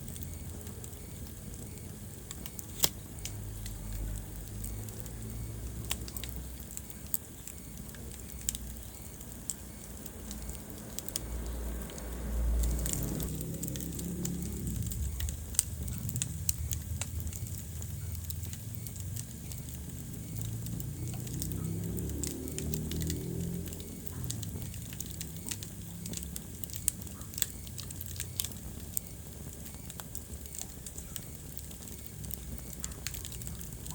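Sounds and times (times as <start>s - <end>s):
fire crackles and pops: 0.0s - 33.9s
low rumble of flames: 0.0s - 33.9s.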